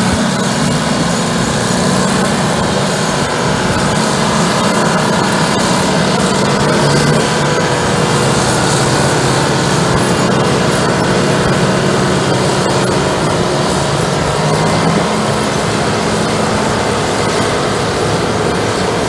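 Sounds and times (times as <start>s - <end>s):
dozer diesel engines running: 0.0s - 19.0s.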